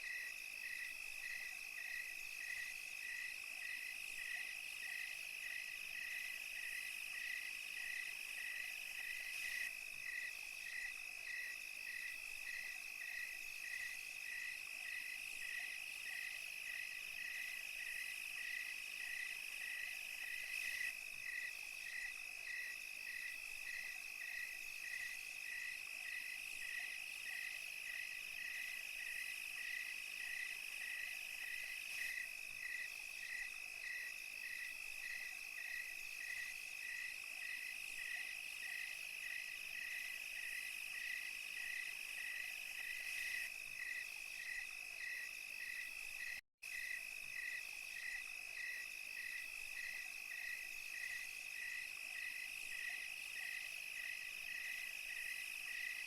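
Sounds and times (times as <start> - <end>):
crickets trilling: 0.0 - 56.0
regular insect chirp: 0.0 - 56.0.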